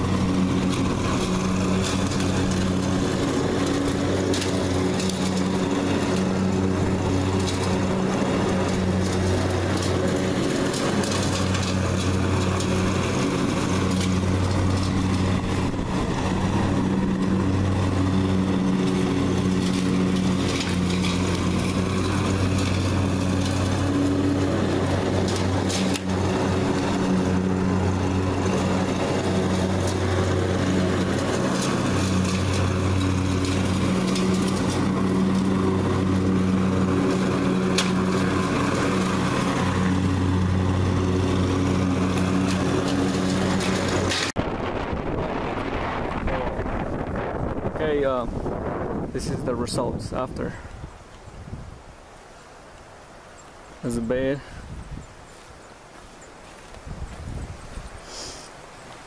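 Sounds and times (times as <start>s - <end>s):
riding lawn mower engine: 0.0s - 59.0s.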